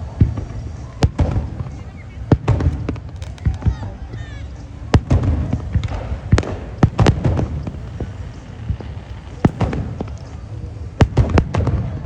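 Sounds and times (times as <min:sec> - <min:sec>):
fireworks bangs: 0:00.0 - 0:12.0
fireworks popping: 0:00.0 - 0:12.0.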